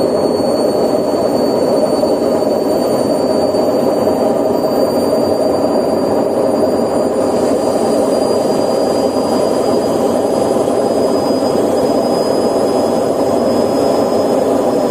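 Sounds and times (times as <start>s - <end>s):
high whine of drum bearings: 0.0s - 14.9s.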